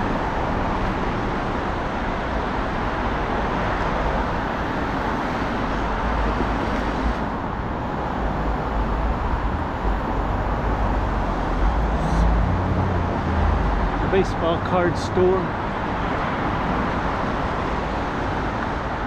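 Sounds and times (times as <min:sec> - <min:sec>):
cars passing on busy street: 0:00.0 - 0:19.0.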